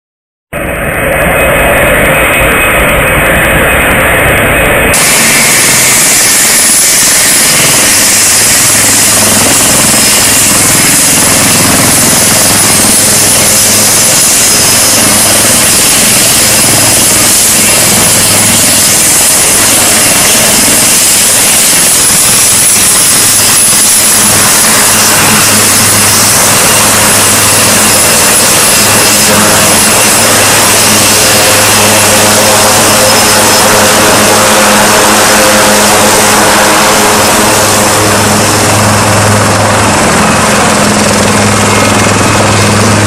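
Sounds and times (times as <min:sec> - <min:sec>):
helicopter rotor noise: 0:00.5 - 0:43.0
high turbine whine: 0:00.5 - 0:43.0.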